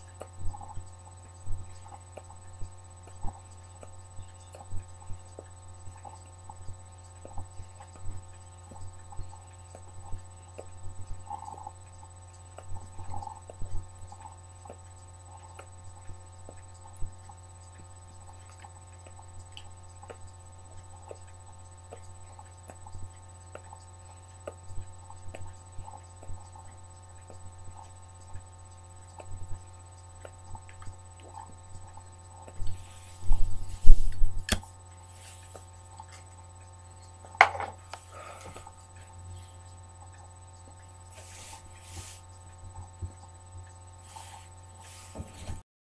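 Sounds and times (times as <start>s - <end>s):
steady low hum: 0.0s - 45.6s.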